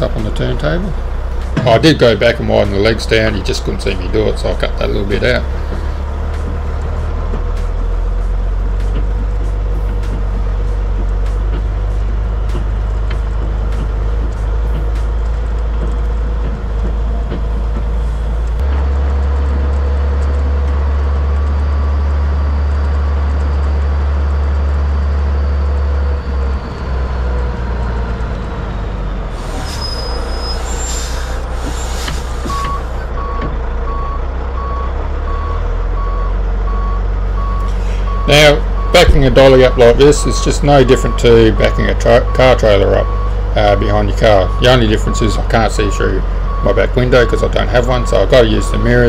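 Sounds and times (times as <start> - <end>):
truck diesel engine droning: 0.0 - 49.0.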